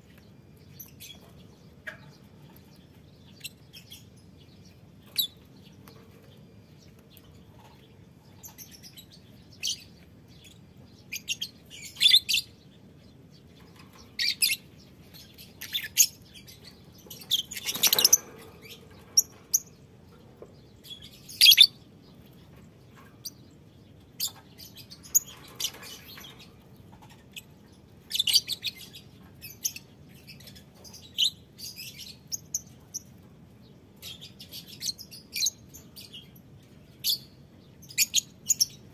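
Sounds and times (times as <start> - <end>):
faint steady background hum: 0.0 - 38.9
lovebirds chirping: 0.0 - 38.9.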